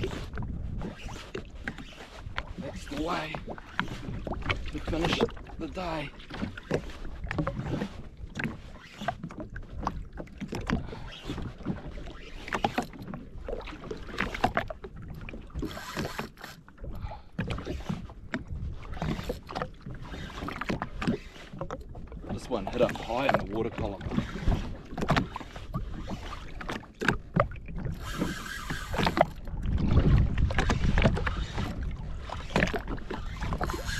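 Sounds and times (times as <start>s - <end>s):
wind rumbling on microphone: 0.0s - 16.2s, 16.8s - 21.2s, 21.8s - 33.9s
waves slapping against hull: 0.0s - 33.9s.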